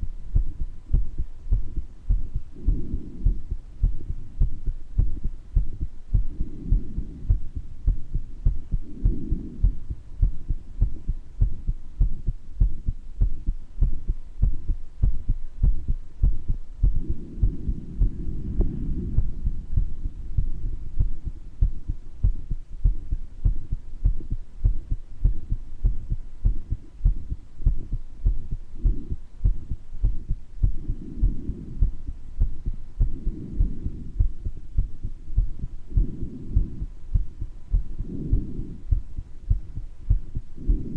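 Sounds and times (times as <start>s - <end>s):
heart beating: 0.0s - 40.9s
soft breath sounds: 0.0s - 40.9s.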